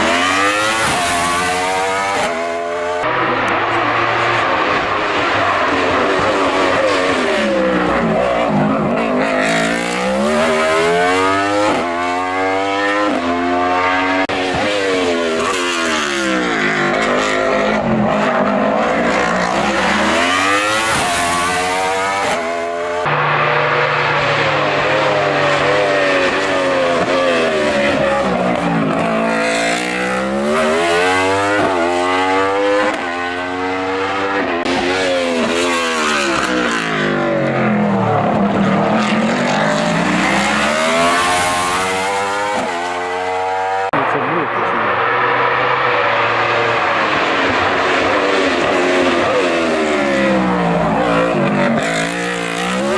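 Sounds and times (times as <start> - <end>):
race car engine revving: 0.0 - 52.9.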